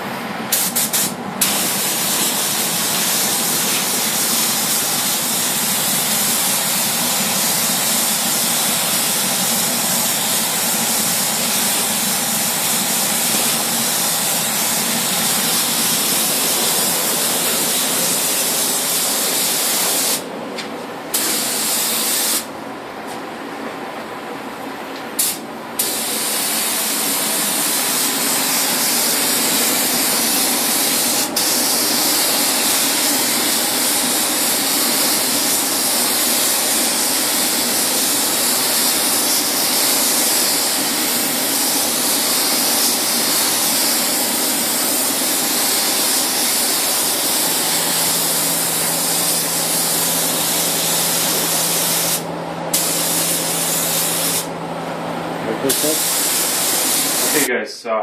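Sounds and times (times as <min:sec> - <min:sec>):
paint spray gun hissing: 0:00.5 - 0:20.3, 0:21.1 - 0:22.5, 0:25.2 - 0:54.6, 0:55.6 - 0:57.5.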